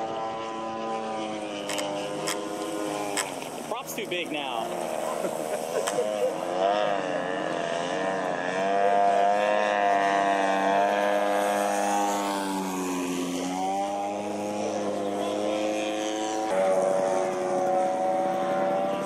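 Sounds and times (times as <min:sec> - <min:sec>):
model plane electric motor whine: 0:00.0 - 0:19.0.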